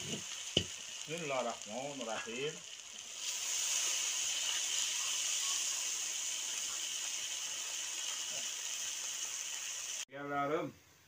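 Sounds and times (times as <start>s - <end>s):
hot oil hissing: 0.0s - 10.1s.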